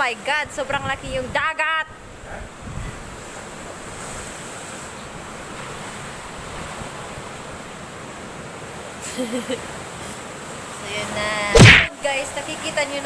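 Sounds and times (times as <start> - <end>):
sea waves breaking on shore: 2.0 - 13.0.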